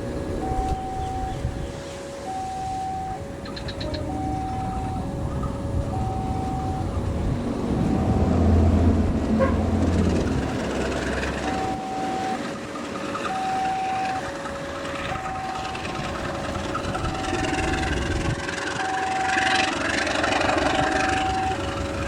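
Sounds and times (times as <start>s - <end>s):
diesel train rumbling: 0.0s - 22.0s
two-tone crossing alarm: 0.0s - 22.0s.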